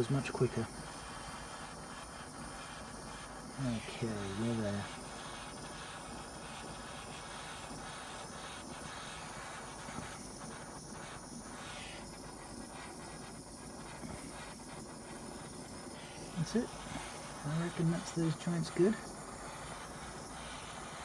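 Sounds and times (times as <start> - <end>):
gas torch flame hissing: 0.0 - 21.0.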